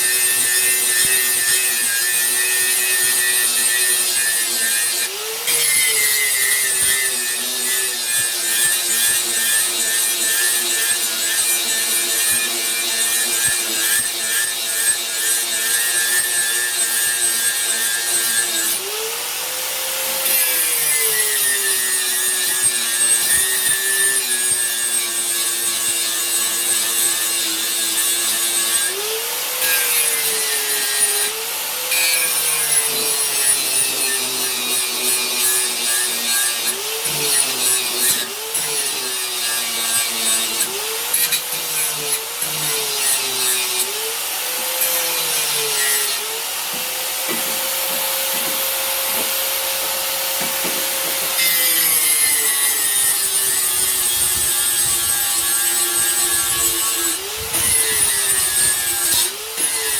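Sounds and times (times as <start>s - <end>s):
power grinder grinding steel: 0.0s - 59.9s.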